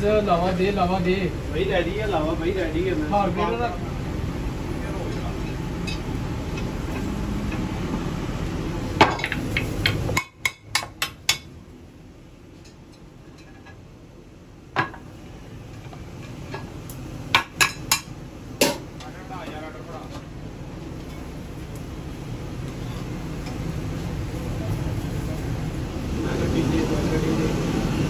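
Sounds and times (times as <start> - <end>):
gas burner rumble: 0.0 - 28.0.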